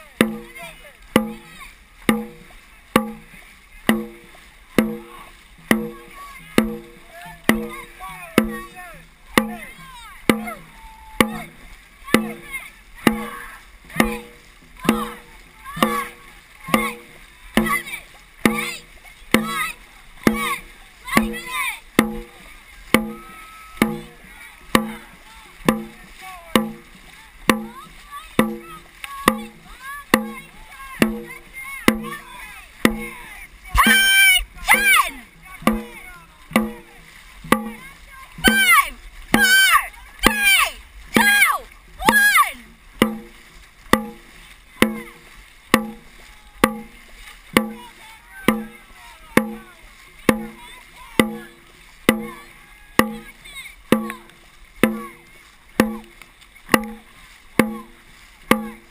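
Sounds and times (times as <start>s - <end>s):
drum beaten in steady rhythm: 0.0s - 58.9s
paddles splashing through water: 0.0s - 58.9s.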